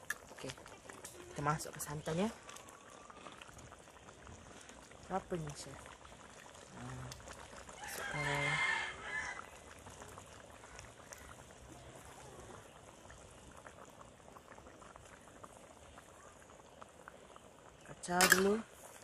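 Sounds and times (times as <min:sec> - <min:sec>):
quiet bubbling and crackle: 0:00.0 - 0:19.0.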